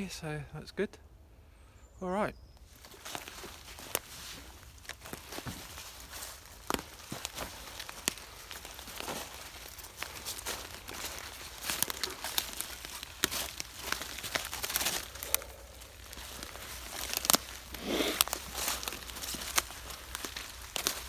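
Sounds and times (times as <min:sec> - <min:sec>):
leaves and twigs crunching: 0:02.4 - 0:21.0
twigs snapping: 0:02.6 - 0:21.0.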